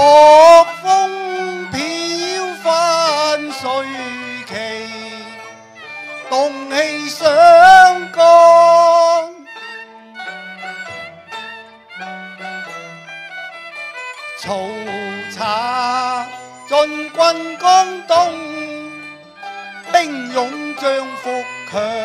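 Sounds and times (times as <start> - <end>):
instrumental ensemble with bowed strings: 0.0 - 22.0.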